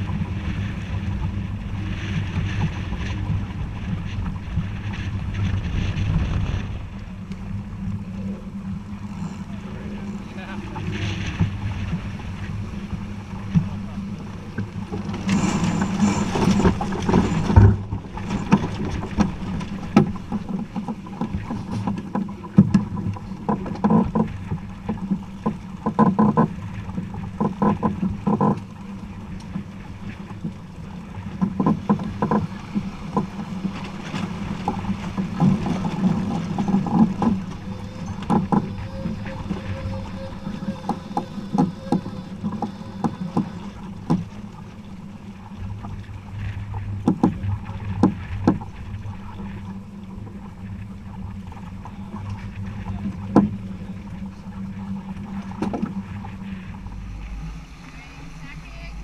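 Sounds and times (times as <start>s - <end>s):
boat knocks and clatter: 0.0s - 59.0s
steady low hum: 0.0s - 59.0s.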